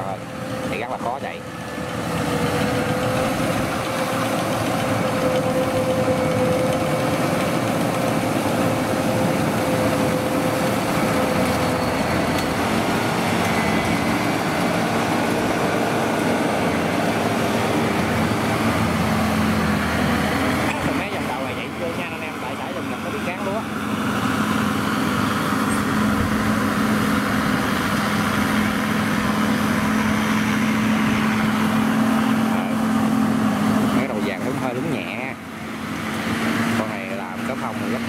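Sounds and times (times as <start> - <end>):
combine harvester running: 0.0 - 38.0.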